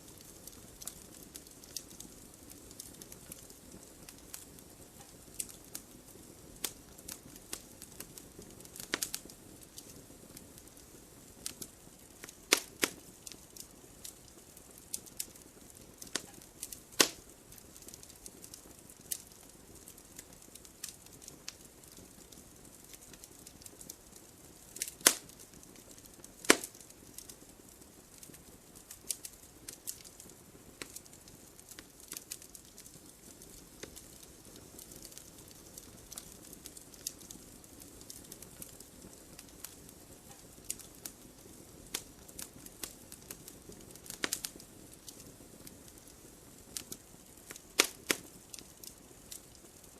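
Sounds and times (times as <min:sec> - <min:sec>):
campfire pops and snaps: 0:00.0 - 0:49.9.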